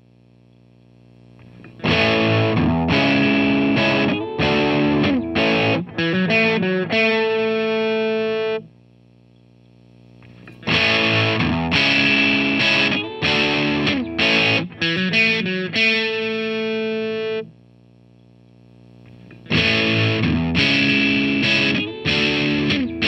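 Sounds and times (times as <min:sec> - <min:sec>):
distorted electric guitar chords: 0:01.4 - 0:08.8, 0:10.2 - 0:17.6, 0:19.0 - 0:23.0.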